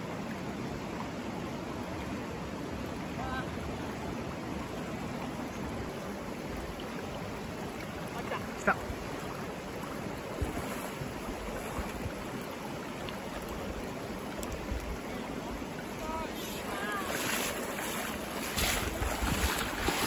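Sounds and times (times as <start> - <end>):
mountain stream rushing over rocks: 0.0 - 20.0.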